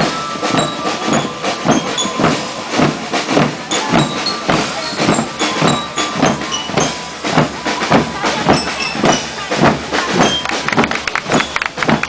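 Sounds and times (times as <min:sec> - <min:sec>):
bass and snare drums marching beat: 0:00.0 - 0:12.0.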